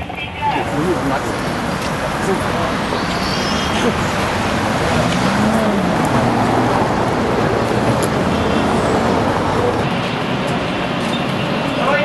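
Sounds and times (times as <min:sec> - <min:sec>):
moving vehicle running noise: 0:00.0 - 0:12.0.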